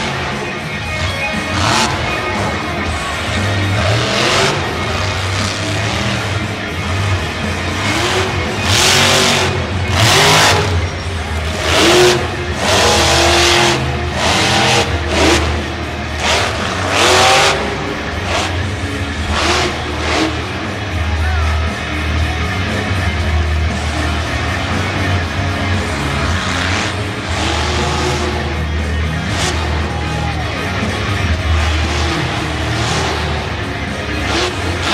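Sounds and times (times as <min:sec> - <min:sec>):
monster truck engine revving: 0:00.0 - 0:34.9
music with steady bass: 0:00.0 - 0:34.9.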